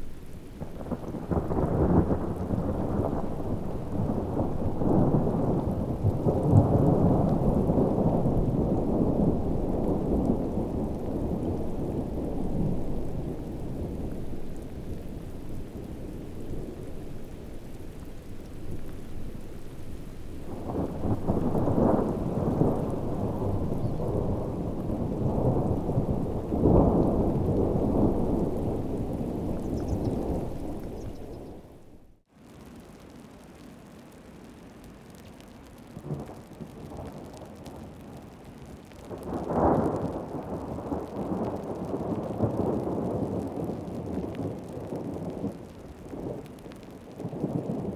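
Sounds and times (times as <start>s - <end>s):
low rolling thunder: 0.0s - 32.2s, 39.2s - 47.9s
heavy rain: 0.0s - 47.9s.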